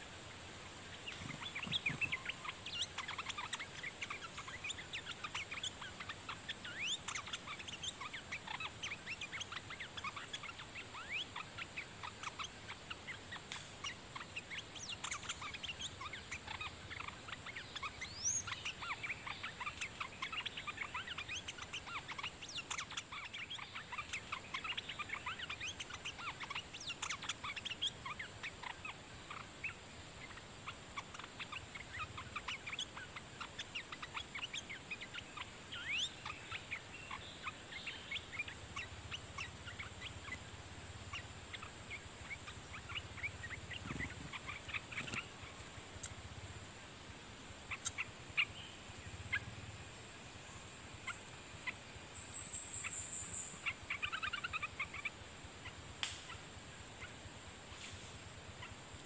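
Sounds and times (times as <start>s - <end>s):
birds chattering: 0.0s - 59.0s
steady high hiss: 0.0s - 59.0s.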